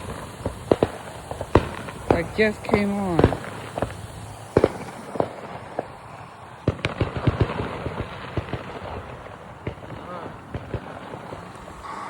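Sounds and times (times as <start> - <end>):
firecrackers popping: 0.0 - 12.0.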